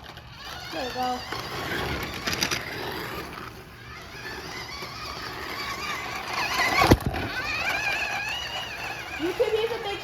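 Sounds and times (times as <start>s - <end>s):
rc car motors whining: 0.0s - 10.0s.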